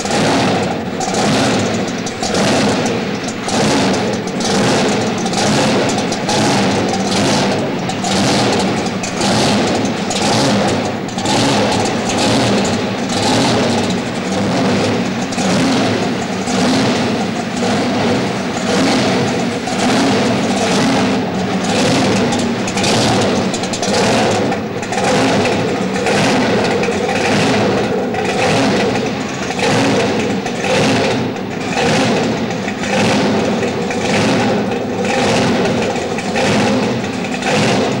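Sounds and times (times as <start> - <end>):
loud engine revving: 0.0 - 38.0.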